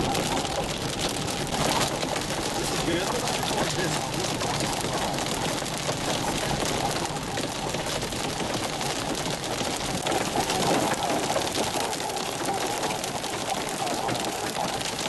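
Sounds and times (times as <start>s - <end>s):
hail pelting a car: 0.0s - 15.0s
heavy wind-driven rain: 0.0s - 15.0s.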